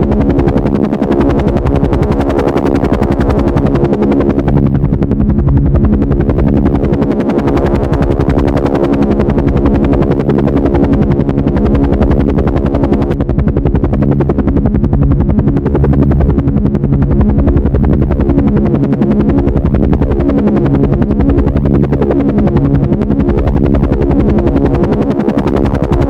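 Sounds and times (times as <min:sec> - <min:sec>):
helicopter rotor blades chopping: 0:00.0 - 0:26.0.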